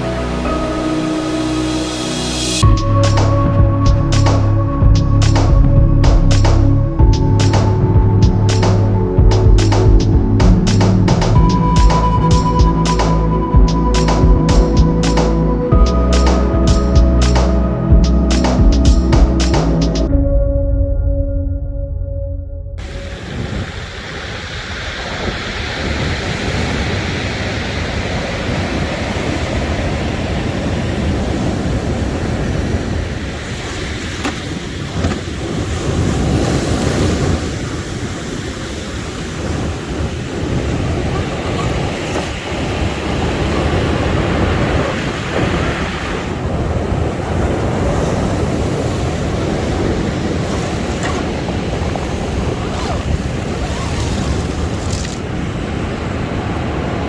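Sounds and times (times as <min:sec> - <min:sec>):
surf rushing: 0:00.0 - 0:20.1, 0:22.8 - 0:57.0
wind buffeting microphone: 0:02.6 - 0:20.2, 0:22.8 - 0:57.0.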